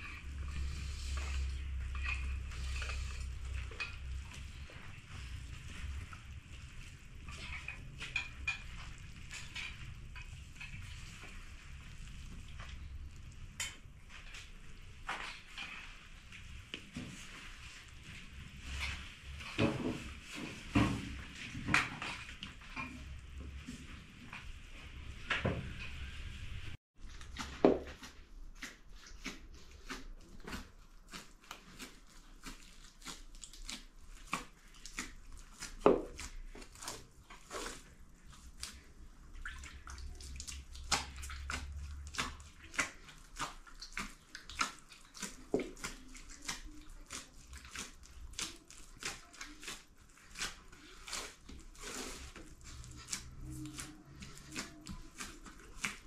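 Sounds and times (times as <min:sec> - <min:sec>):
dough squelching and slapping: 0:00.0 - 0:56.0.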